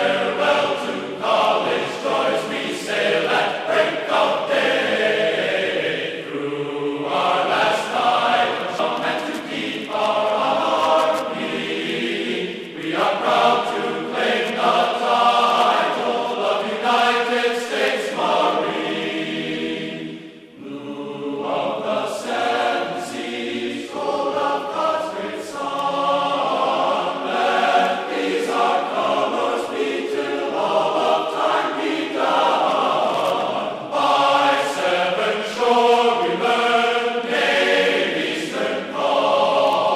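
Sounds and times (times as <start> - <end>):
music with choir-like voices: 0.0 - 39.9.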